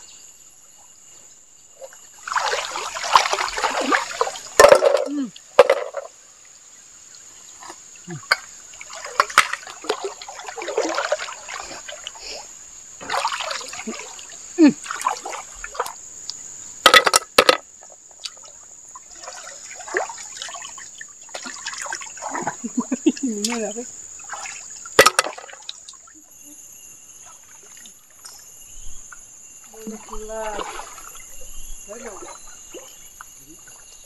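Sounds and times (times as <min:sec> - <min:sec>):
river water splashing: 0:01.8 - 0:34.0.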